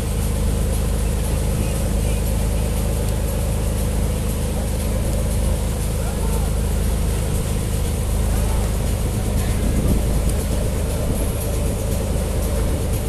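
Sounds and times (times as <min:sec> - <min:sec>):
motorboat engine droning: 0:00.0 - 0:13.0
water rushing in wake: 0:00.0 - 0:13.0.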